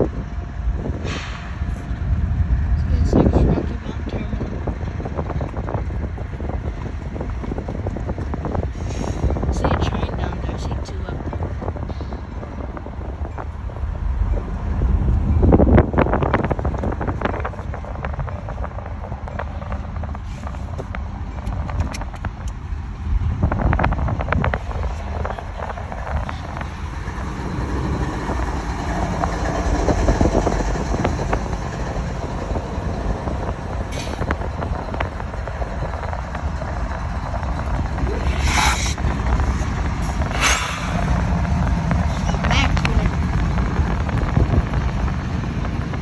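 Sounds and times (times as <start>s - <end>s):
train clanks and squeals: 0.0s - 22.8s, 23.7s - 44.1s
train rumbling: 0.0s - 46.0s
wind buffeting microphone: 0.0s - 46.0s.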